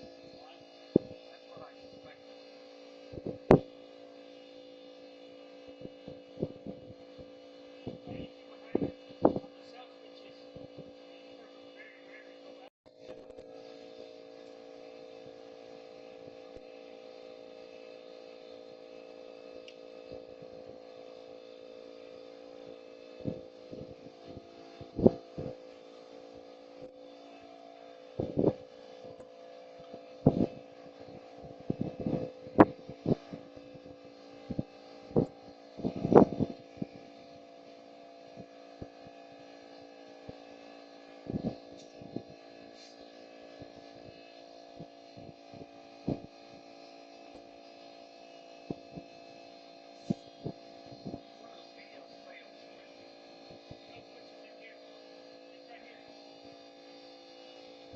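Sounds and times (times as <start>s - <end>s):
mechanical hum: 0.0s - 57.9s.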